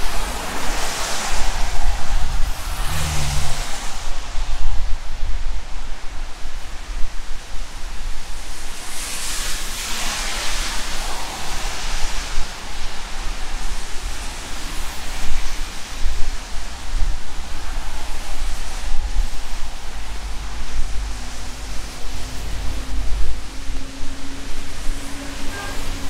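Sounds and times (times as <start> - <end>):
car passing on wet road: 0.0 - 26.0
steady rain on street: 0.0 - 26.0
traffic hiss on wet asphalt: 0.0 - 26.0.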